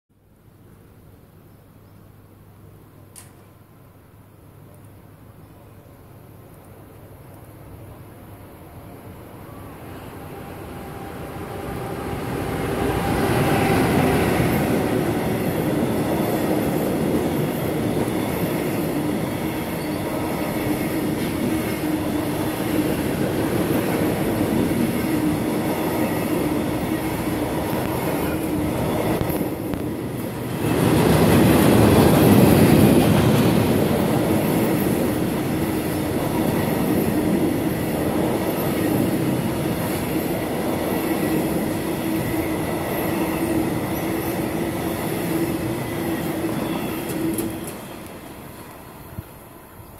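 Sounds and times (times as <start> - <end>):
train wheels rumbling on rail: 9.0 - 49.9.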